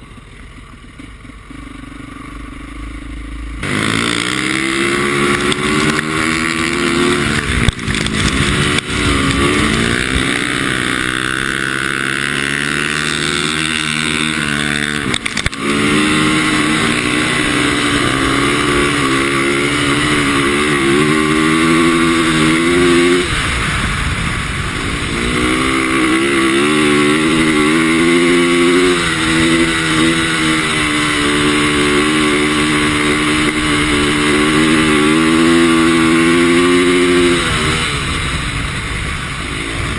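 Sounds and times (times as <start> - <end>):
dirt bike engine revving: 0.8 - 39.9.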